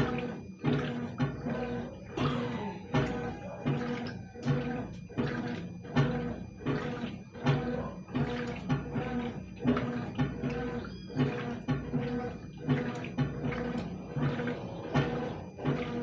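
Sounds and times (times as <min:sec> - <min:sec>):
washing machine motor hum: 0:00.0 - 0:16.0
water and clothes sloshing: 0:00.0 - 0:16.0.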